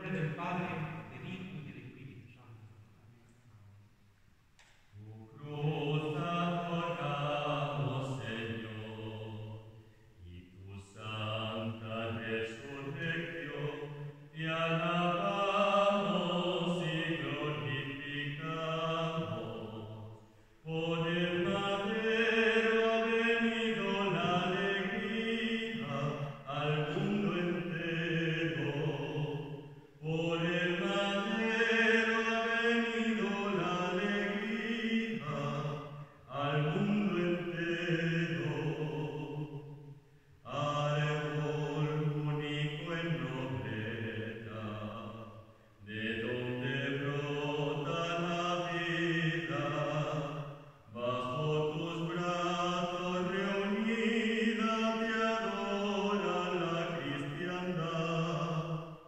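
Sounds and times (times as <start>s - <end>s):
liturgical chant singing: 0.0s - 2.6s, 4.9s - 59.0s.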